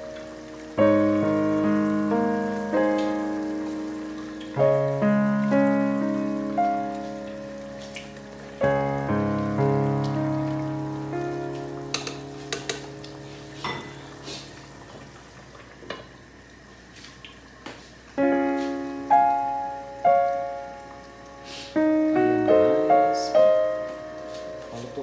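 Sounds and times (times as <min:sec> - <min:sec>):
piano music: 0:00.0 - 0:15.5, 0:18.1 - 0:25.0.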